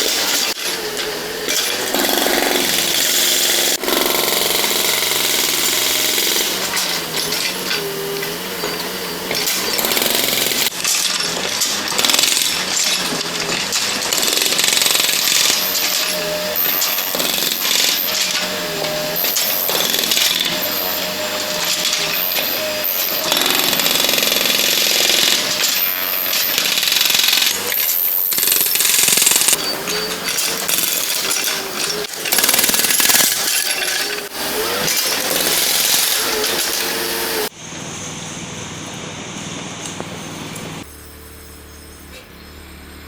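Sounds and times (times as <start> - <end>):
concrete breaker hammering: 0.0 - 37.5.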